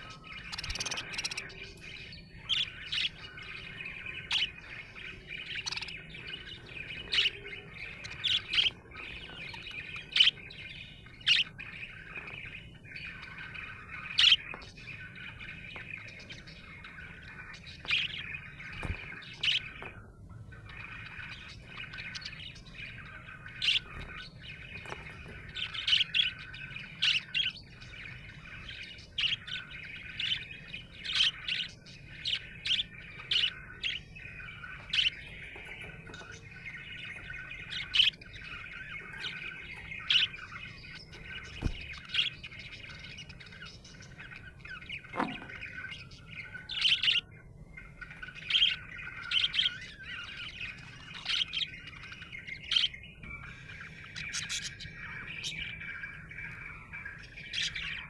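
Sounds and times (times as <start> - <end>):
budgerigar warbling and chattering: 0.0 - 58.0.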